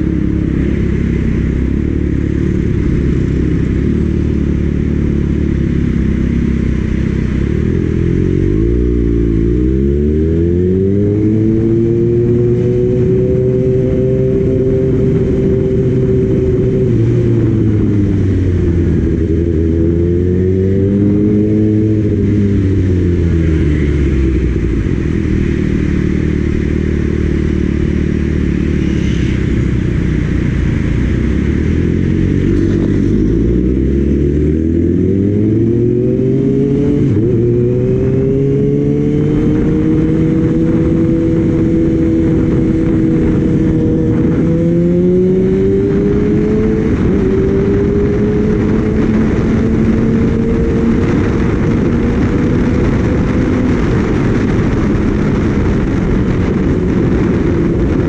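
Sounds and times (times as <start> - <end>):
motorcycle engine: 0.0 - 58.0
wind noise on microphone: 0.0 - 58.0.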